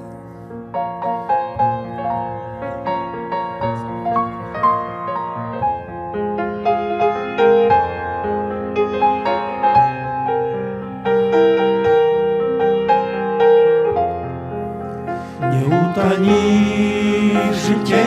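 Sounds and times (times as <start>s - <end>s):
slow gentle piano melody: 0.0s - 18.0s.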